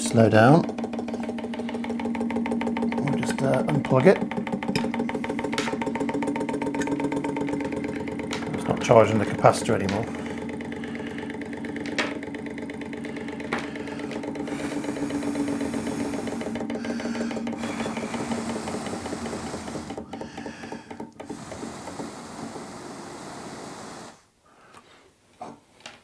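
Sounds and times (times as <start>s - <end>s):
small engine clatter and hum: 0.0s - 24.2s.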